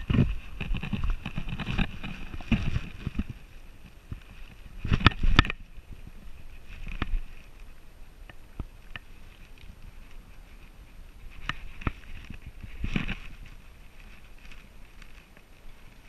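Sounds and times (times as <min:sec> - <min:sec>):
camera rubbing and knocking: 0:00.0 - 0:15.4.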